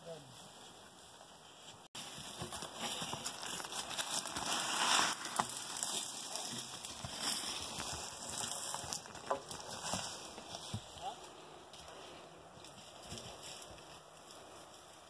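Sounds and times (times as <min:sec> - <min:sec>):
brush and twigs crackling: 0:00.4 - 0:15.0.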